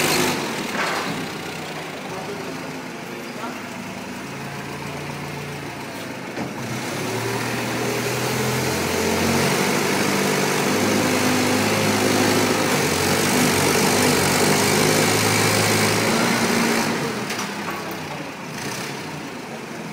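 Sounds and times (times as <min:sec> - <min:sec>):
engine running: 0:00.0 - 0:19.9.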